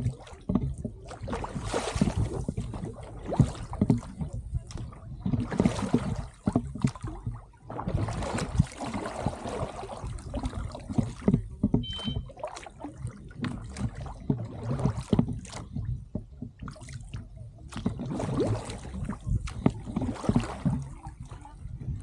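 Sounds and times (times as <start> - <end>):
oars knocking in oarlocks: 0.0 - 20.9
oars splashing in water: 0.0 - 22.0.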